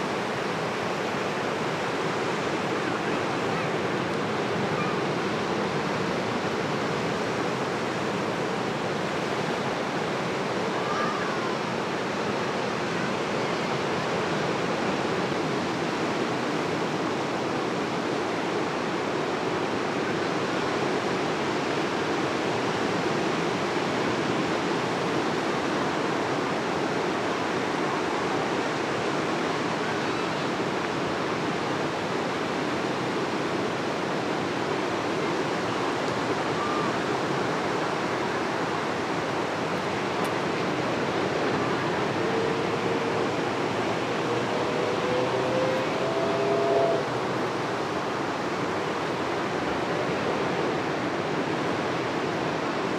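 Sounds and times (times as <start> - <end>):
ocean surf on beach: 0.0 - 52.9.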